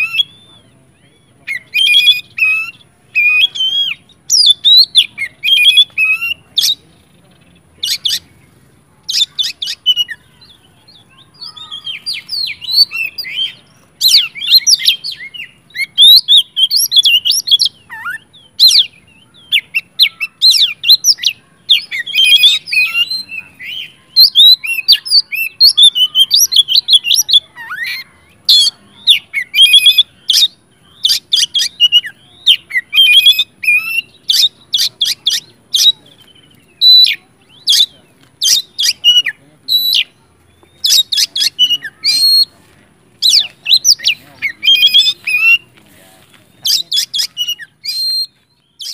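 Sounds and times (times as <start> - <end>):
bird singing chirps and trills: 0.0 - 48.9.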